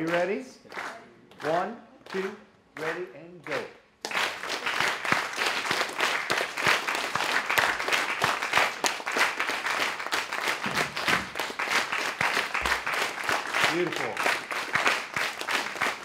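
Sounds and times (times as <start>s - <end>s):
audience clapping: 0.0s - 16.0s.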